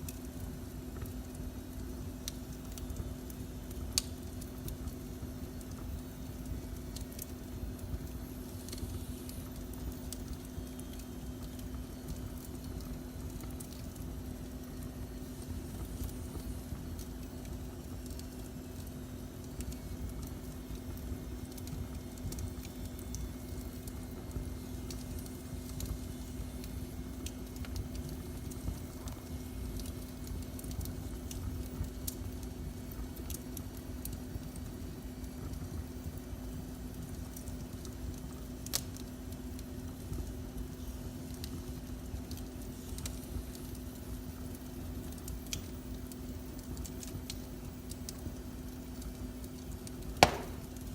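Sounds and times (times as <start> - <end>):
constant low hum: 0.0 - 50.9
wood fire burning: 0.0 - 50.9.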